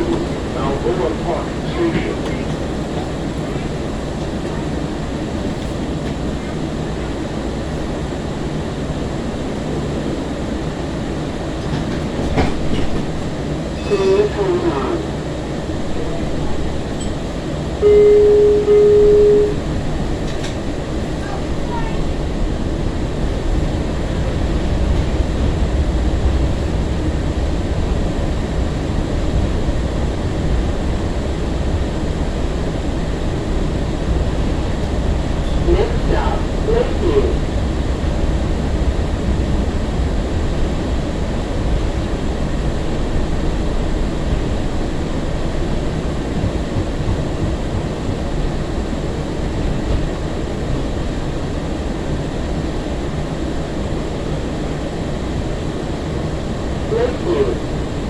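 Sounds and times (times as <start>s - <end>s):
faint hum: 0.0s - 11.4s, 13.3s - 58.0s
train interior rumble: 0.0s - 58.0s.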